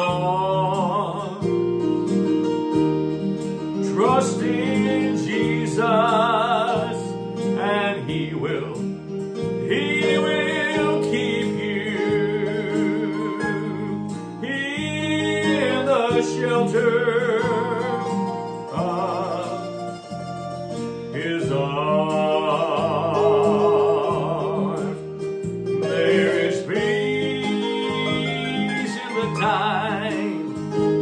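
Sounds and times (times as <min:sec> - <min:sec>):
person singing with vibrato: 0:00.0 - 0:01.8, 0:03.8 - 0:08.9, 0:09.6 - 0:20.2, 0:21.1 - 0:25.2, 0:25.8 - 0:31.0
guitar accompaniment: 0:00.0 - 0:31.0.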